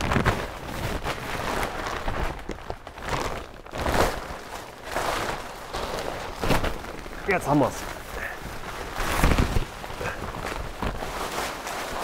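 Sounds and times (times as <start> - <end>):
plastic membrane rustling: 0.0 - 12.0.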